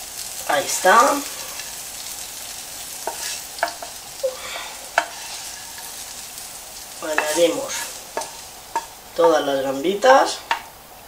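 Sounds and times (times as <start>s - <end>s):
shrimp sizzling in oil: 0.0s - 11.0s.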